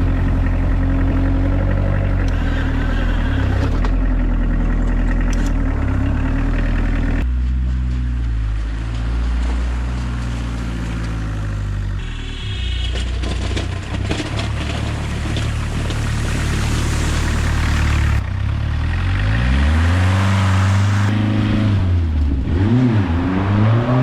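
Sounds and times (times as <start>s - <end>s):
diesel engine running: 0.0s - 22.8s.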